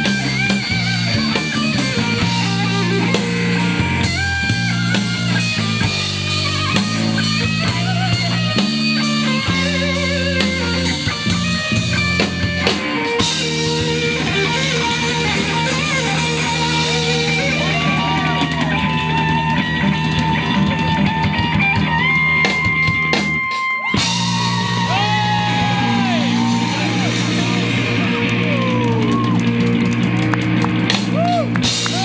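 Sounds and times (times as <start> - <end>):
drum kit: 0.0 - 32.0
electric guitar lead notes: 0.0 - 32.0.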